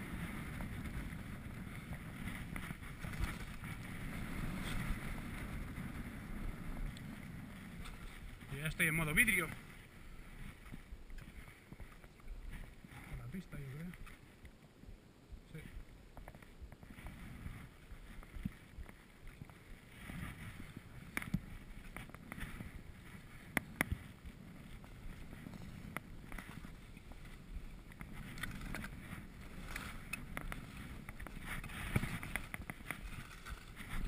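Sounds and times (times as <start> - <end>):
skis swishing through powder snow: 0.0 - 13.2, 16.8 - 34.0.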